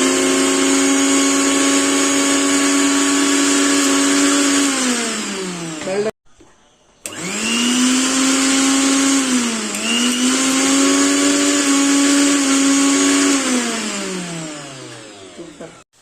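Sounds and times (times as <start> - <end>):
mixer grinder motor whine: 0.0 - 6.2, 7.0 - 16.0.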